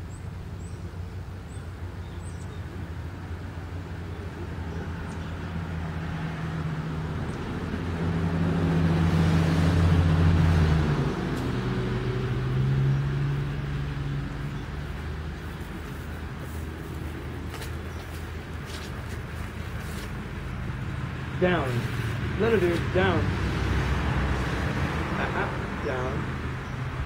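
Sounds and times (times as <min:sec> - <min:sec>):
vehicle passing on road: 0:00.0 - 0:27.0.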